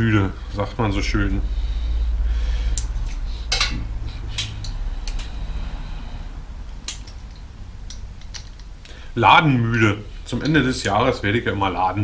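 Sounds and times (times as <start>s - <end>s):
low hum: 0.0s - 11.5s.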